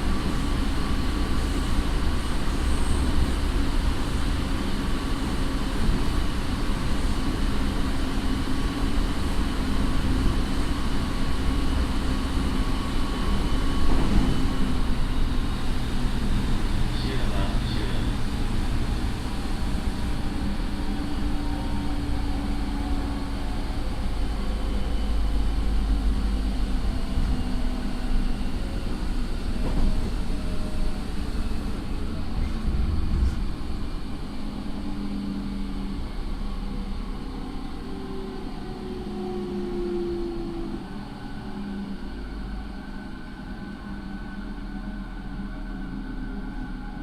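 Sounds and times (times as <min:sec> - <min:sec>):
wheels rumbling on rail: 0:00.0 - 0:47.0.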